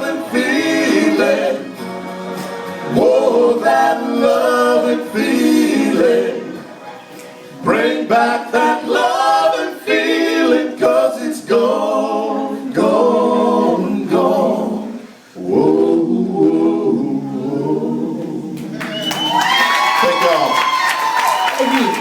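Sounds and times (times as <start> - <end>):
voices singing a cappella: 0.0 - 19.1.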